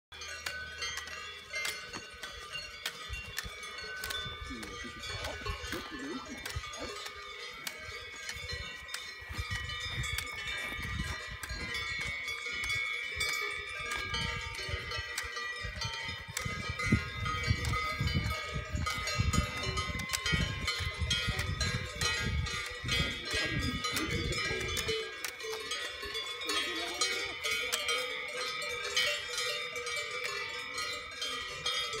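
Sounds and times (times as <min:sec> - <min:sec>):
cow bells clanking: 0:00.1 - 0:32.0.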